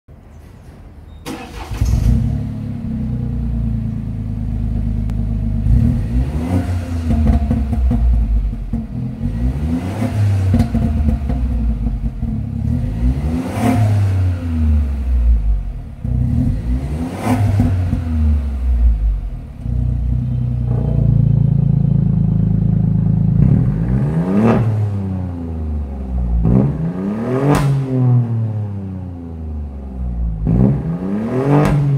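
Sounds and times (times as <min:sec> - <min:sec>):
car engine idling and revving: 0:01.4 - 0:31.9.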